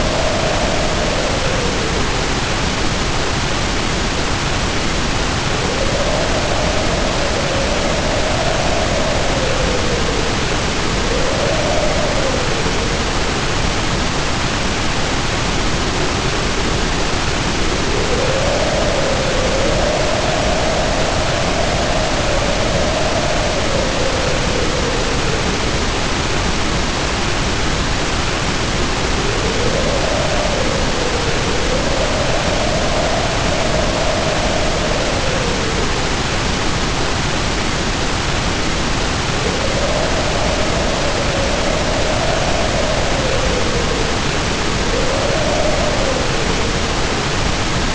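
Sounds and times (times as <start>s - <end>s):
howling wind: 0.0s - 47.9s
pouring rain: 0.0s - 47.9s.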